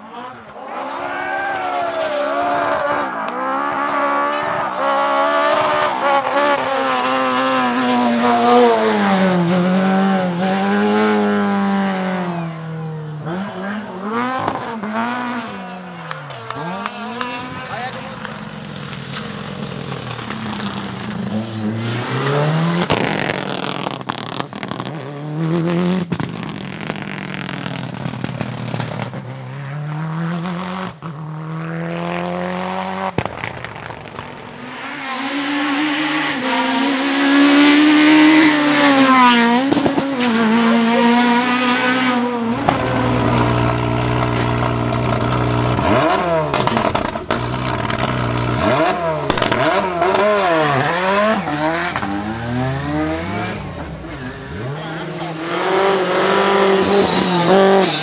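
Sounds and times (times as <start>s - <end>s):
rally car engine revving through gears: 2.0s - 33.2s, 34.7s - 58.0s.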